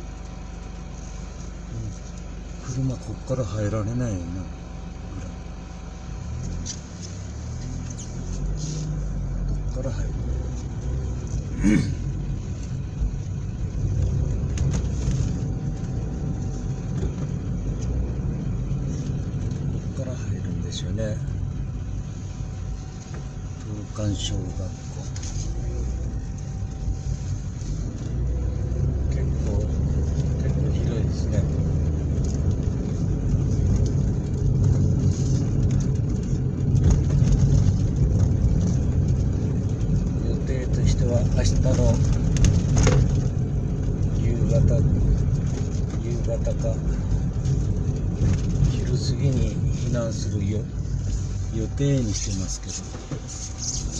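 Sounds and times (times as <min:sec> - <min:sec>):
car interior low rumble: 0:00.0 - 0:53.9.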